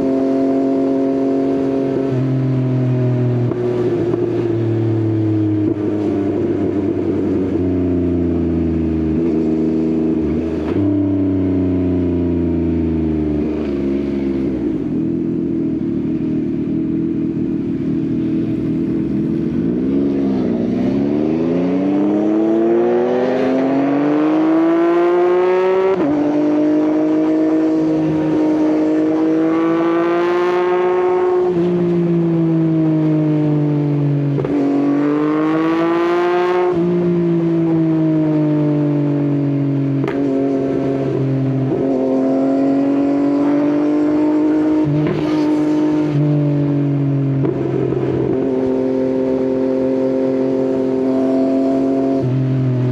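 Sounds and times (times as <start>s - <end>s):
motorcycle engine riding: 0.0s - 52.9s.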